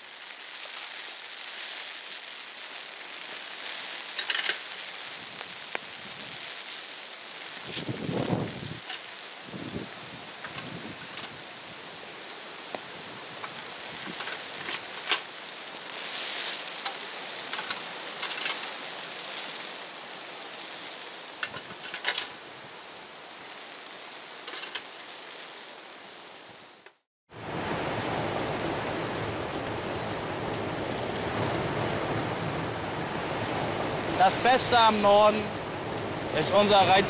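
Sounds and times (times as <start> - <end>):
wind: 0.0 - 37.0
sea surf: 2.7 - 26.6, 27.3 - 37.0.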